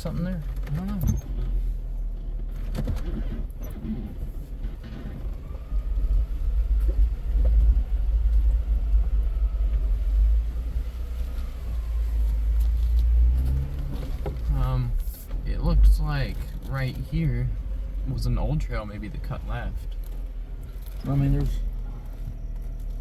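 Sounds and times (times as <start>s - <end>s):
vehicle engine and tyre rumble: 0.0s - 23.0s.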